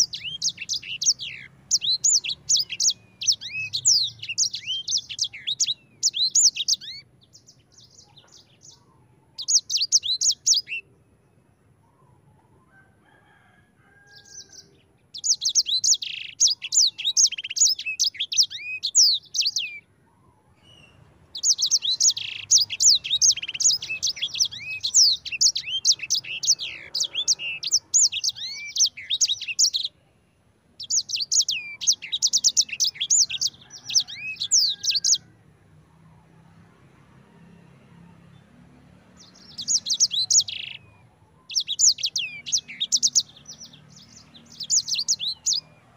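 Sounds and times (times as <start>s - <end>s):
songbird singing: 0.0s - 37.6s, 38.2s - 45.9s.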